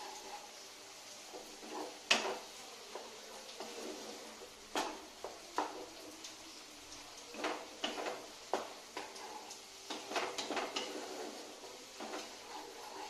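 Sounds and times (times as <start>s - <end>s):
wooden spatula scraping metal pot: 0.0s - 0.6s, 1.3s - 5.9s, 7.3s - 13.0s.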